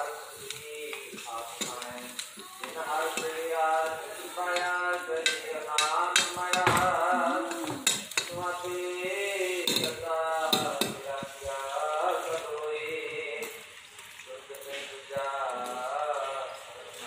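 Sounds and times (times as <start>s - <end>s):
faint sizzle: 0.0s - 17.0s
person singing: 0.0s - 17.0s.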